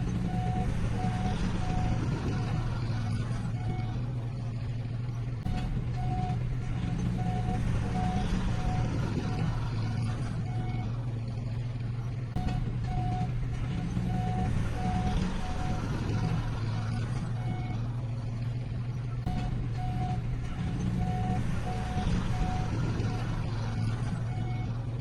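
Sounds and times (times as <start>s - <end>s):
heavy diesel machinery running: 0.0s - 25.0s
reversing alarm beeping: 0.1s - 4.0s, 5.4s - 11.0s, 12.4s - 17.8s, 19.2s - 24.8s.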